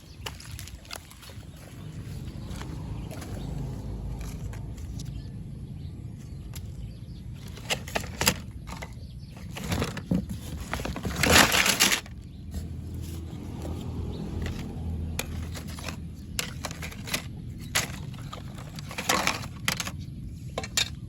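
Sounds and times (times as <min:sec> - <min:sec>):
rustling and scraping: 0:00.0 - 0:05.3, 0:06.1 - 0:21.0.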